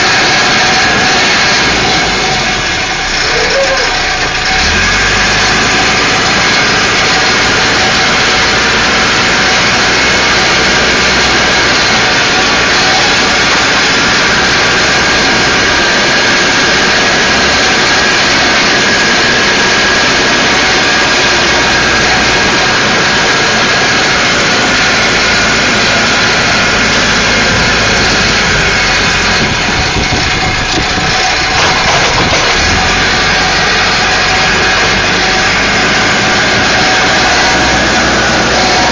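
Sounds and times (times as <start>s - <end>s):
diesel engine running: 0.0s - 38.9s
high whine: 0.0s - 38.9s.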